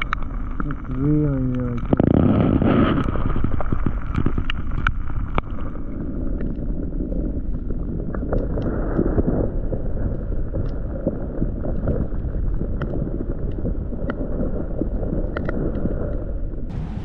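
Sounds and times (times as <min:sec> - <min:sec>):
muffled underwater rumble: 0:00.0 - 0:17.0
sharp clicks and crackles: 0:00.0 - 0:17.0.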